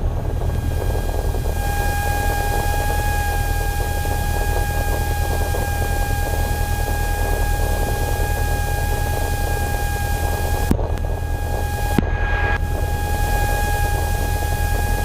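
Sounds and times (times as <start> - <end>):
airplane engine idling drone: 0.0 - 15.0
steady high whine: 0.0 - 15.0.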